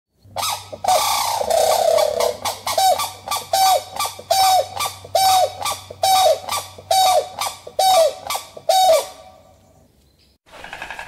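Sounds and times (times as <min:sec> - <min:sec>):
large bird harsh calls: 0:00.4 - 0:09.5.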